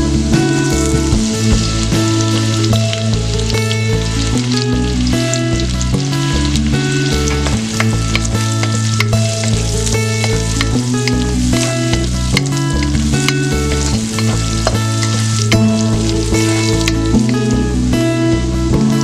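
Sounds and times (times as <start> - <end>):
background music: 0.0 - 19.0
onion sizzling in oil: 0.0 - 19.0.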